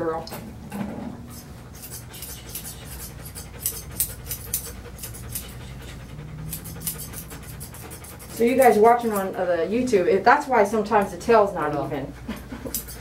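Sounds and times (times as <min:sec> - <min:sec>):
large dog panting: 0:01.2 - 0:10.1, 0:11.3 - 0:13.0.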